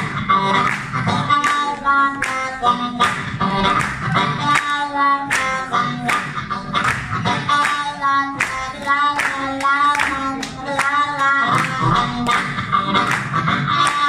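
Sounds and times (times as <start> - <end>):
blues harmonica bending notes: 0.0 - 14.0
live band: 0.0 - 14.0.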